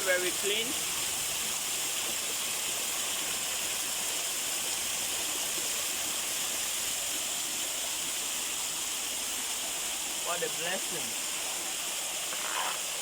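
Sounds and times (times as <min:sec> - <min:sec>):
spring water pouring from rock: 0:00.0 - 0:13.0.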